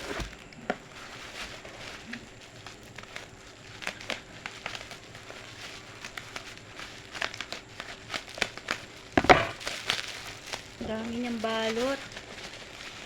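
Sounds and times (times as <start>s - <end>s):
bubble wrap crinkling: 0.0s - 13.0s
plastic rustle: 0.0s - 13.0s.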